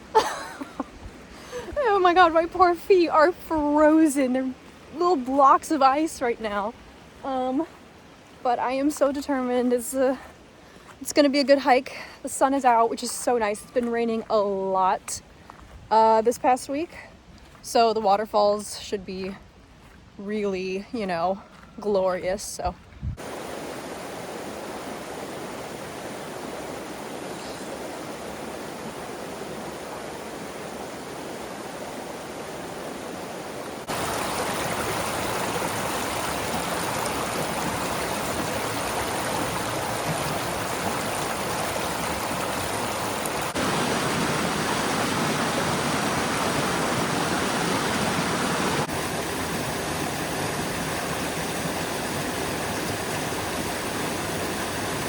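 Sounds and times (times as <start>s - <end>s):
creek water rushing: 0.0s - 15.6s, 23.2s - 55.0s.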